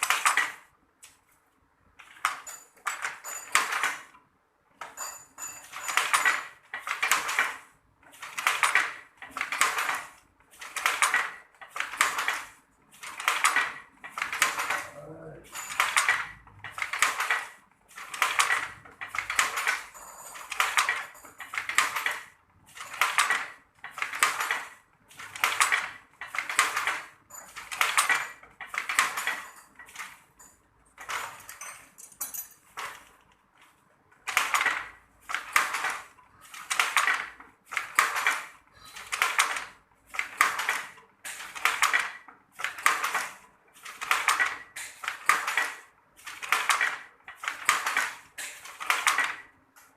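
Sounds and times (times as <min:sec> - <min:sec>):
weaving loom clattering: 0:00.0 - 0:00.7, 0:02.0 - 0:04.2, 0:04.8 - 0:49.9.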